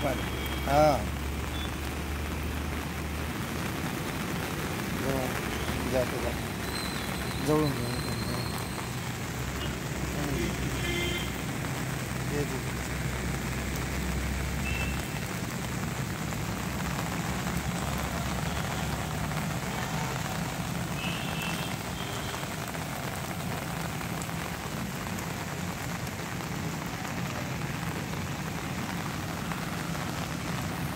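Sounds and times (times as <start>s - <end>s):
heavy rain falling on puddles: 0.0s - 30.9s.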